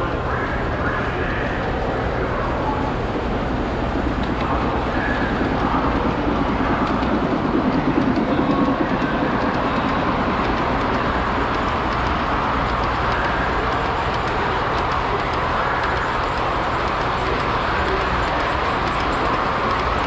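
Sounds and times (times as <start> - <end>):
busy exhibition hall noise: 0.0 - 20.0
model trains rolling on rails: 0.1 - 20.0.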